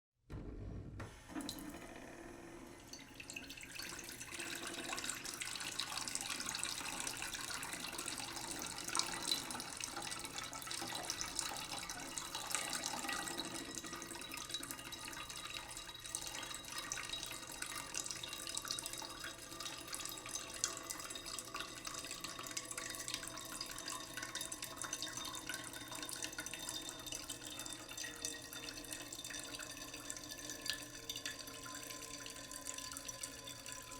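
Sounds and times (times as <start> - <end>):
tap water trickling into pot: 2.9 - 33.9.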